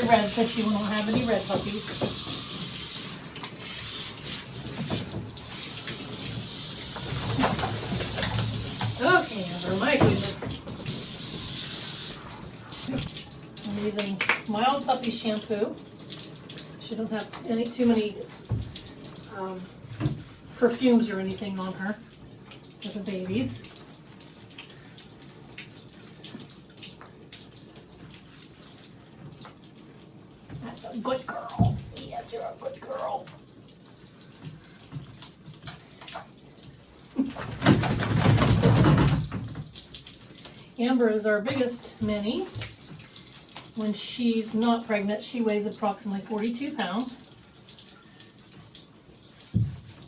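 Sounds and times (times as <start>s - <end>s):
water running from a tap: 0.0s - 50.0s
water splashing in a bathtub: 0.0s - 50.0s.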